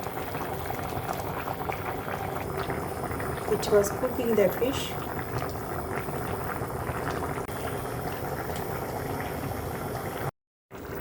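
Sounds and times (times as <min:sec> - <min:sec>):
curry bubbling in a pan: 0:00.0 - 0:11.0.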